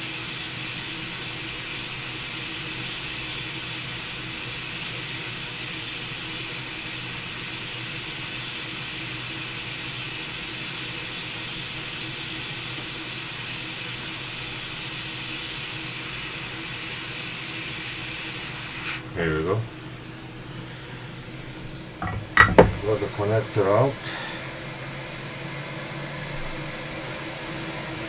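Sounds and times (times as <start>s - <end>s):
hot air blower hiss: 0.0s - 28.0s.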